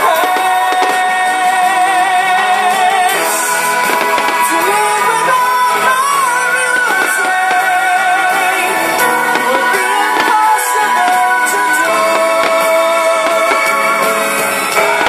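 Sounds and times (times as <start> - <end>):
person singing long notes: 0.0 - 15.0
rock band playing live: 0.0 - 15.0.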